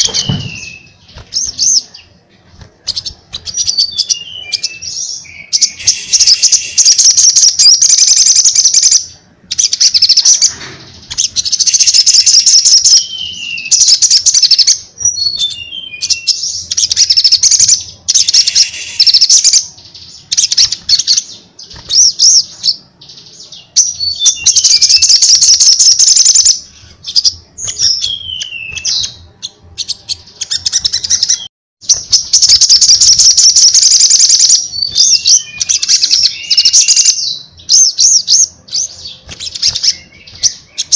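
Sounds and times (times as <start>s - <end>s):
sunbird singing rapid trills: 2.9s - 40.9s.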